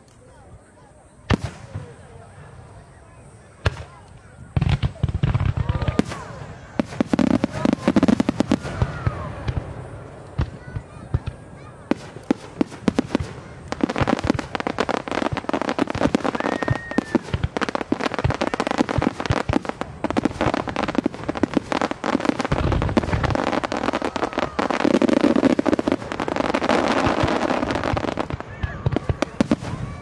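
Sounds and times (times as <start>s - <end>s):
fireworks bursting: 1.0s - 30.0s.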